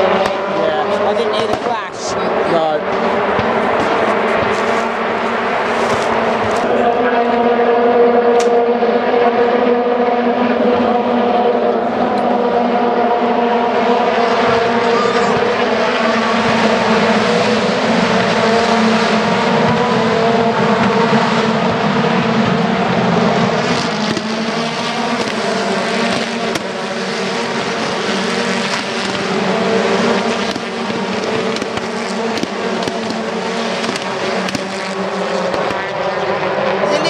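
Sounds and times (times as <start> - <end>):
racing cars passing at high revs: 0.0 - 37.0.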